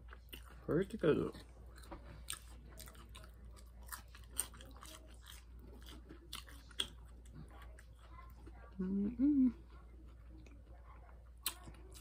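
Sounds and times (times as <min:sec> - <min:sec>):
person chewing crunchy food: 0:00.0 - 0:08.8, 0:09.7 - 0:12.0.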